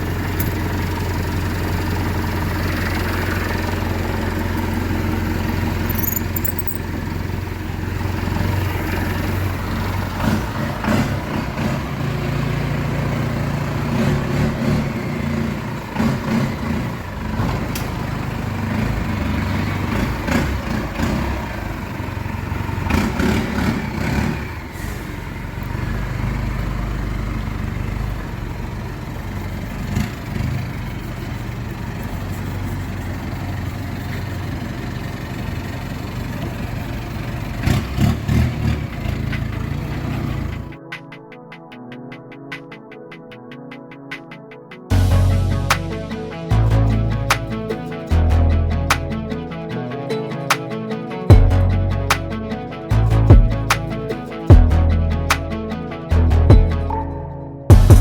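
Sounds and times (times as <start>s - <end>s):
diesel engine running: 0.0s - 40.8s, 44.9s - 56.9s.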